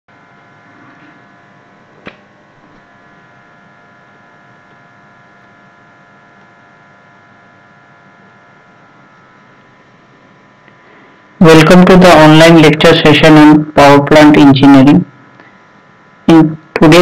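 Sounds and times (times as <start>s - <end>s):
electrical hum and hiss: 0.1s - 17.0s.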